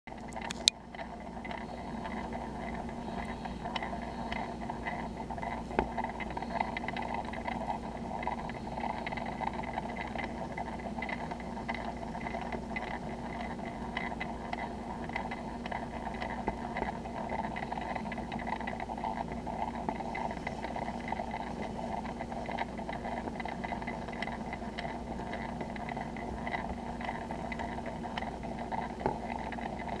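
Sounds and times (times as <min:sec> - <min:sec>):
mechanical hum: 0:00.1 - 0:30.0
faint ticks: 0:00.2 - 0:30.0.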